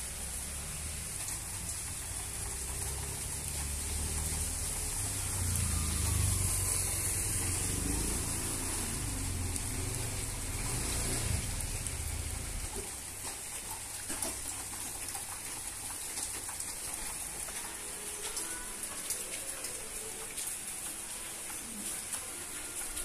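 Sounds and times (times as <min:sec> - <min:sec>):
water dripping: 0:00.0 - 0:23.0.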